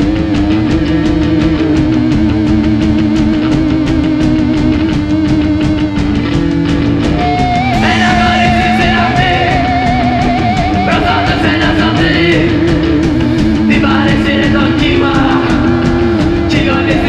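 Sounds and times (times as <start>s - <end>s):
wavering lead guitar note: 0.0s - 16.5s
rock band playing: 0.0s - 17.0s.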